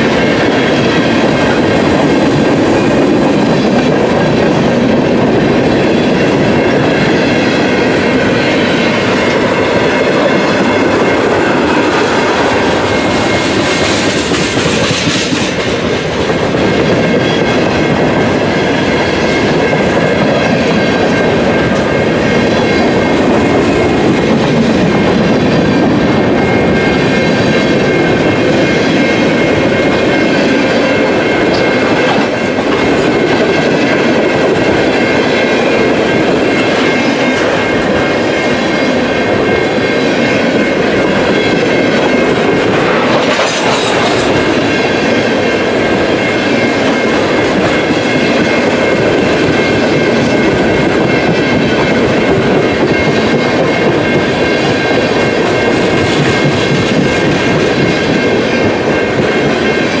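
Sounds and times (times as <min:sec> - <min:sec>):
train wheels clattering on rails: 0:00.0 - 1:00.0.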